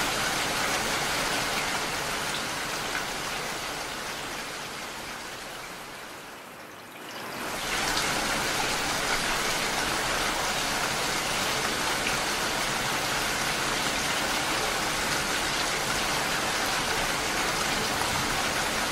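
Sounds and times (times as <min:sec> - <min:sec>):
heavy rain falling: 0:00.0 - 0:06.2, 0:07.3 - 0:18.9.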